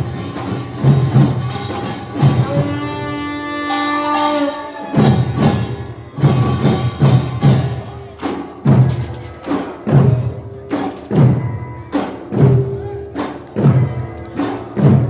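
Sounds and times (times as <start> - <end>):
drums struck hard: 0.0 - 15.0
percussion band playing: 0.0 - 15.0.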